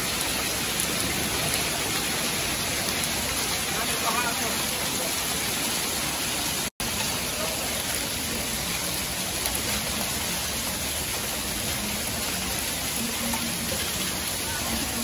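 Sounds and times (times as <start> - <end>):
hail and heavy rain on roof: 0.0 - 15.0.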